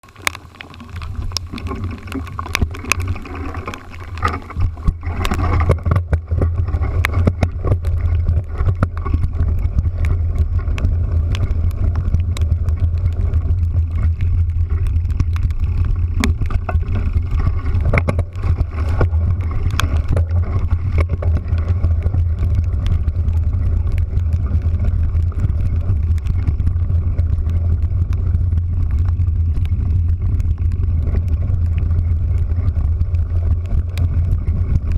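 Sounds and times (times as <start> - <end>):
rain taps on microphone: 0.0 - 34.9
vehicle rumble: 0.8 - 34.9.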